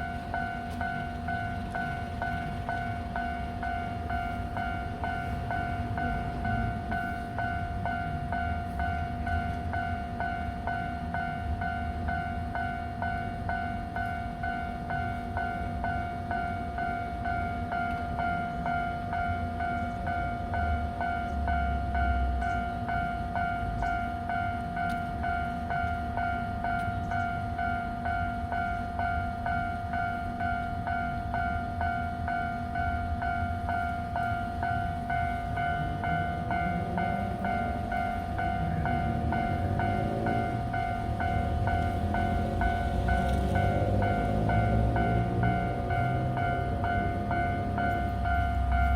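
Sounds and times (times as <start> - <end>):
level crossing alarm ringing: 0.0 - 48.9
low rumble of train: 0.0 - 48.9.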